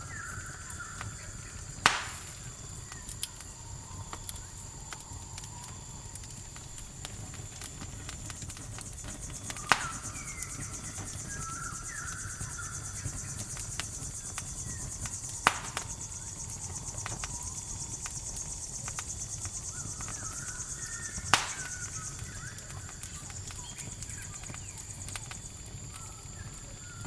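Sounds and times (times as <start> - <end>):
campfire crackling: 0.0 - 27.0
crickets chirring: 0.0 - 27.0.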